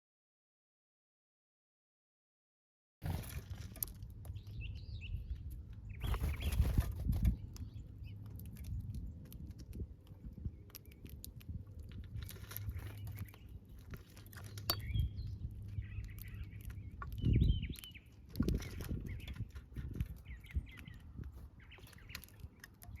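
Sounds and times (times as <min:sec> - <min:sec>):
small birds chirping: 0:03.0 - 0:23.0.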